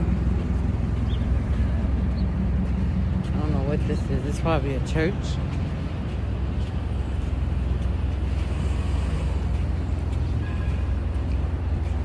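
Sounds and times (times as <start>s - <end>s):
cars and buses passing: 0.0s - 12.0s.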